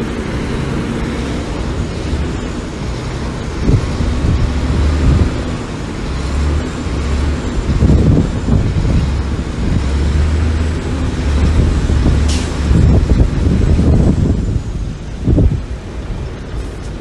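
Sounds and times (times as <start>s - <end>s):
diesel engine under load: 0.0s - 17.0s.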